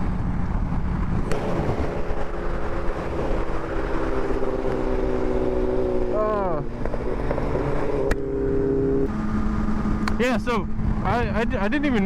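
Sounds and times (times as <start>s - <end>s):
motorcycle engine cruising: 0.0s - 12.0s
wind rush on microphone: 0.0s - 12.0s.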